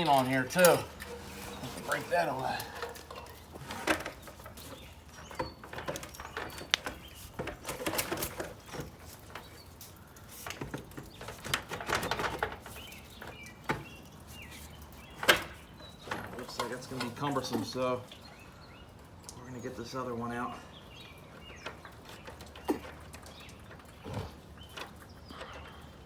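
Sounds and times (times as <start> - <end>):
faint birds chirping: 0.0 - 26.0
metal downspout clicking and scraping: 0.0 - 26.0.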